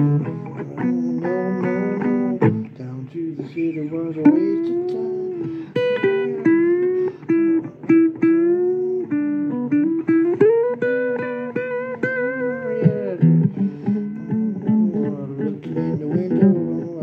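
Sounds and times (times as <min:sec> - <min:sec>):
blues guitar lead: 0:00.0 - 0:17.0.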